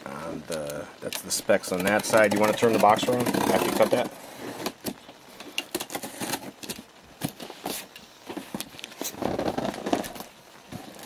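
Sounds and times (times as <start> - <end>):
cardboard box scraping and crackling: 1.5 - 11.0.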